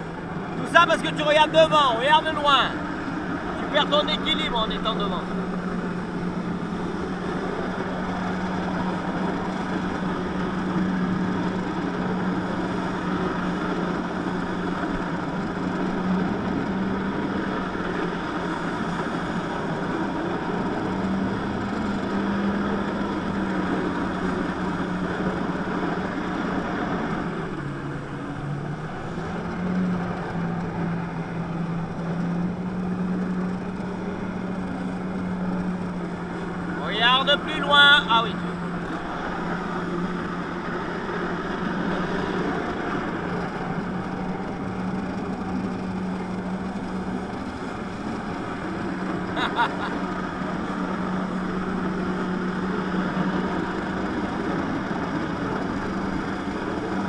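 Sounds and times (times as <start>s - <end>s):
jet ski engine at high revs: 0.0s - 57.0s.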